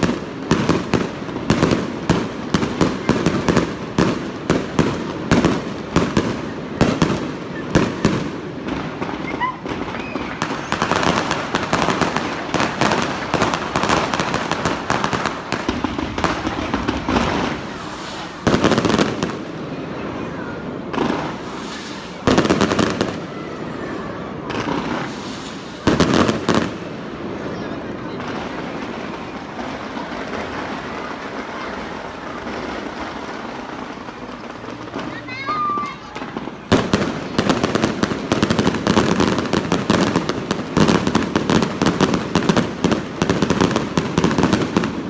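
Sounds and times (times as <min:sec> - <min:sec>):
fireworks crackling bangs: 0:00.0 - 0:45.0
loud firework bursts: 0:00.0 - 0:45.0.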